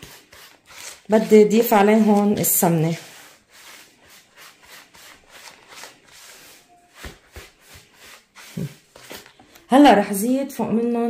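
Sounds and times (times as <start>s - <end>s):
spatula scraping in plastic bowl: 0.0s - 9.3s.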